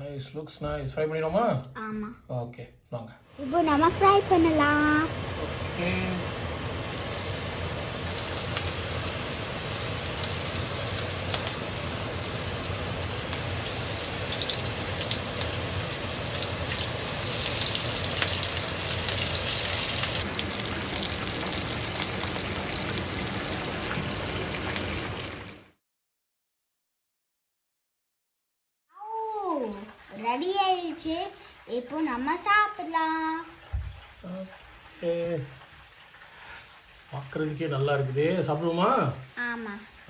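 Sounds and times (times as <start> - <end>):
food deep-frying in oil: 3.4 - 25.8, 29.1 - 40.0.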